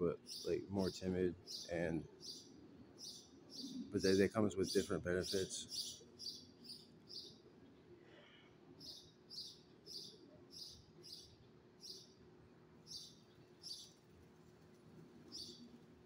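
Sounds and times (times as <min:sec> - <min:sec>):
faint low hum: 0:00.0 - 0:16.0
small bird chirping: 0:00.2 - 0:07.4, 0:08.8 - 0:12.2, 0:12.8 - 0:16.0.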